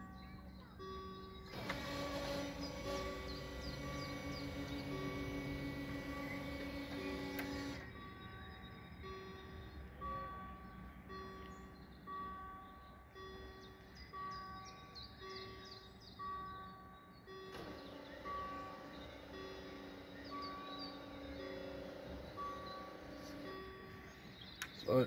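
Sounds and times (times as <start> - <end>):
level crossing warning bell: 0.0 - 25.0.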